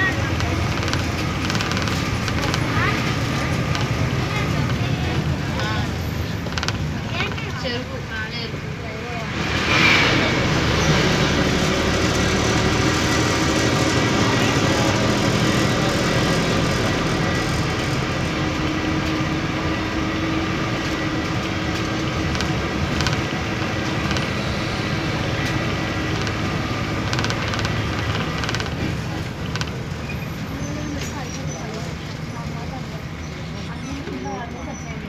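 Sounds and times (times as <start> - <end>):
vehicle road and engine noise: 0.0 - 35.0.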